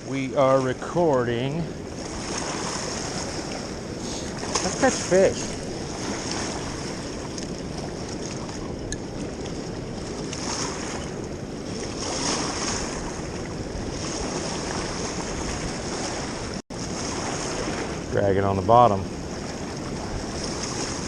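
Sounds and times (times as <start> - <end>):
flowing river water: 0.0 - 21.0
wind on microphone: 0.0 - 21.0.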